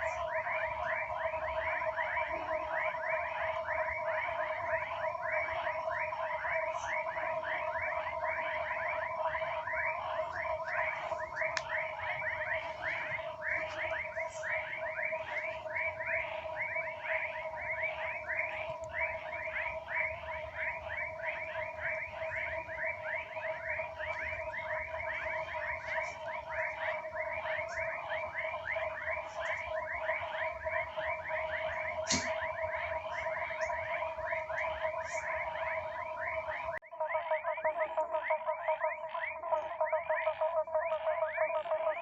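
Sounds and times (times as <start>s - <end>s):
frogs and toads calling: 0.0s - 36.8s
steady droning tone: 0.0s - 36.8s.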